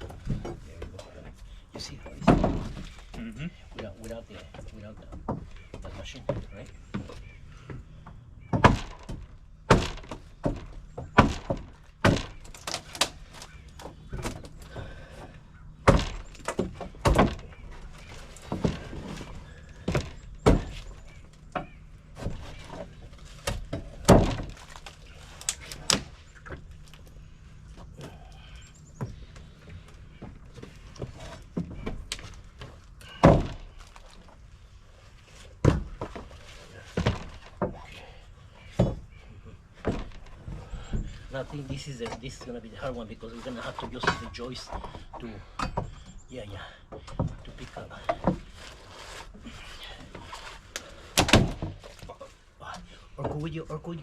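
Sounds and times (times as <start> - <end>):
wooden boards thunking and banging: 0.0 - 26.8, 27.5 - 34.5, 35.2 - 53.8.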